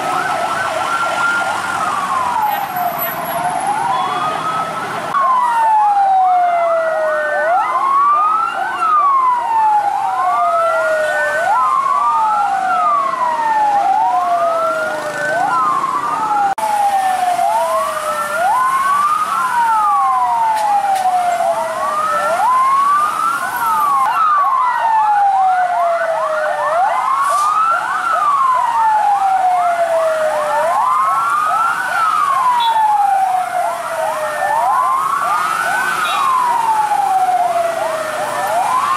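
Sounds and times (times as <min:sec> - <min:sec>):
emergency sirens wailing: 0:00.0 - 0:38.9
yelping siren: 0:00.0 - 0:38.9.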